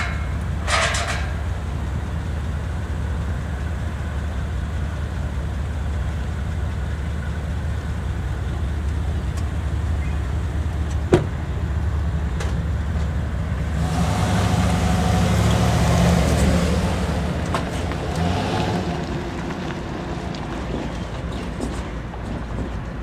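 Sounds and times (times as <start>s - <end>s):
diesel locomotive engine drone: 0.0s - 23.0s.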